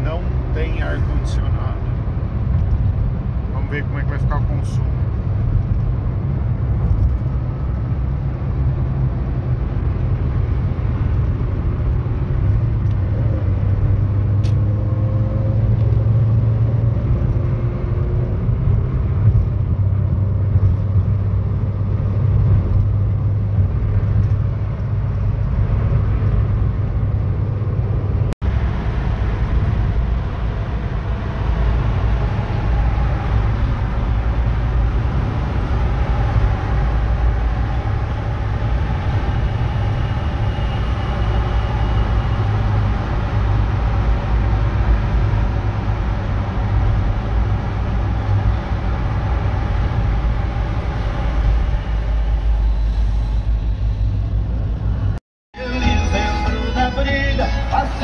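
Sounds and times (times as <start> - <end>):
car engine drone: 0.0 - 58.0
road rumble: 0.0 - 58.0.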